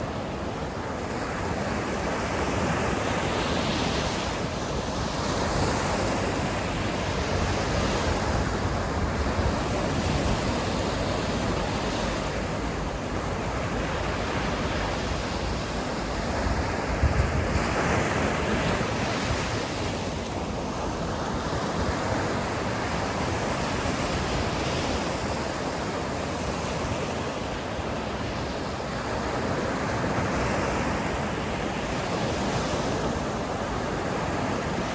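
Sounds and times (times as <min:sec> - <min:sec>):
sea waves breaking on shore: 0:00.0 - 0:34.9.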